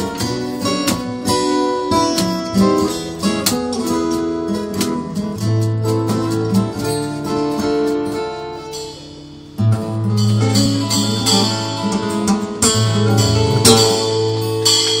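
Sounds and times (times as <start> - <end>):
acoustic guitar band strumming: 0.0 - 15.0
cajon: 0.0 - 15.0.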